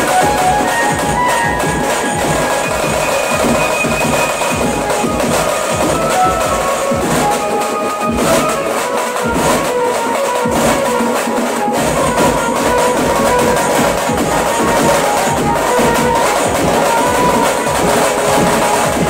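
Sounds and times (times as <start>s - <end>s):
electronic drum pads beat: 0.0s - 19.0s
keyboard melody: 0.0s - 19.0s.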